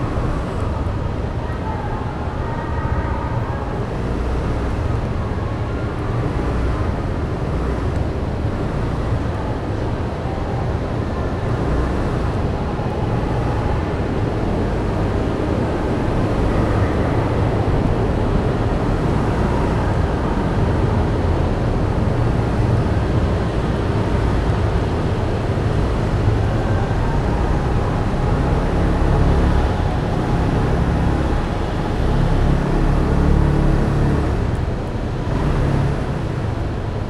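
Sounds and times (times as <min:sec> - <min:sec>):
traffic rumble and engines: 0:00.0 - 0:37.0.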